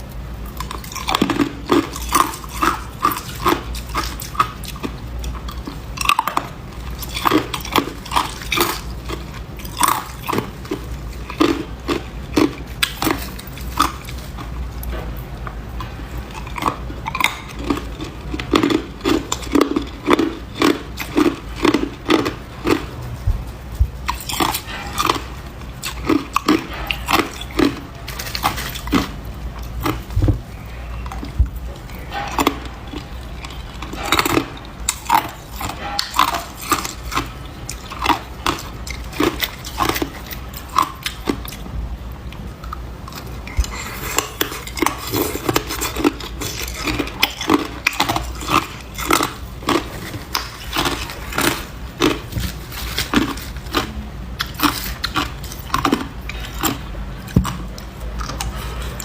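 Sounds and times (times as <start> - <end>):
ice being chewed: 0.0 - 14.9, 15.8 - 23.2, 24.0 - 41.7, 42.3 - 59.0.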